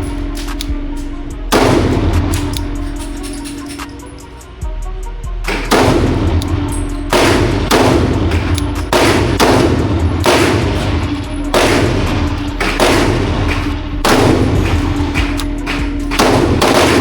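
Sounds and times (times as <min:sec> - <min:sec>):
background music: 0:00.0 - 0:17.0
pistol shots echoing: 0:01.5 - 0:04.0, 0:05.5 - 0:17.0.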